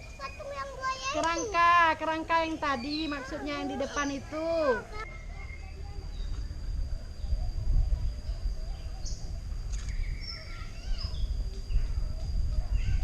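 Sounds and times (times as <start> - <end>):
birds chirping: 0.0 - 12.1
low outdoor rumble: 0.0 - 13.0.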